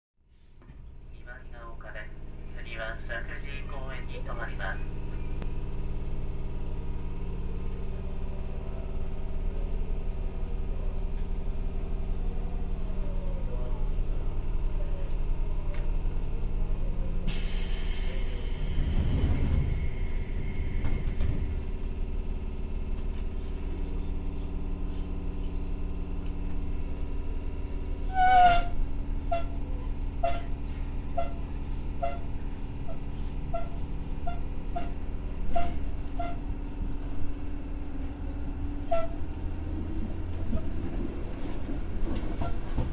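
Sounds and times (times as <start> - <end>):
train equipment hum: 0.4 - 42.9.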